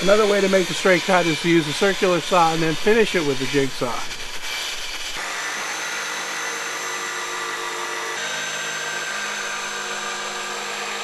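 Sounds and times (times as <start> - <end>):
jigsaw cutting wood: 0.0 - 11.0.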